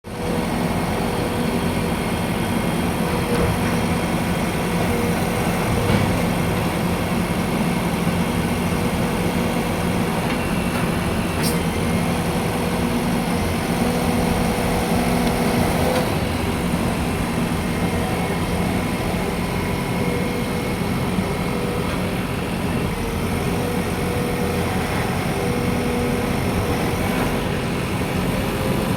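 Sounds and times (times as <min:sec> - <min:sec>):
diesel engine running: 0:00.1 - 0:28.9.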